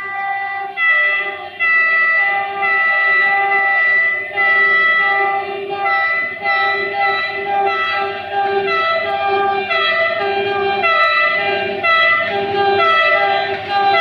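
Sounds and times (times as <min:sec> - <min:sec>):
locomotive horn: 0:00.0 - 0:14.0.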